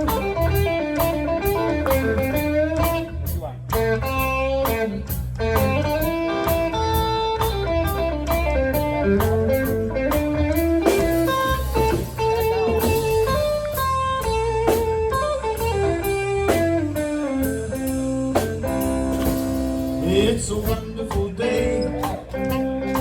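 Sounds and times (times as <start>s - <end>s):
bass and drums: 0.0s - 23.0s
lead guitar melody: 0.0s - 23.0s.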